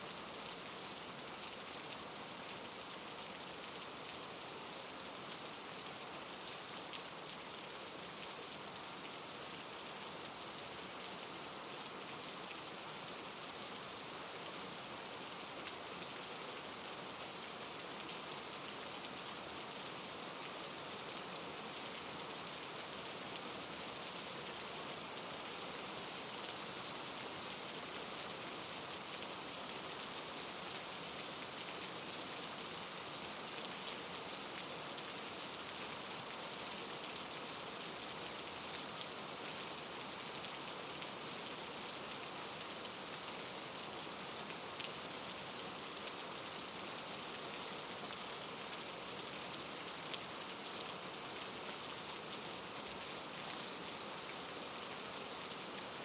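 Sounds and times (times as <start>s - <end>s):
soft rain pattering: 0.0s - 56.0s.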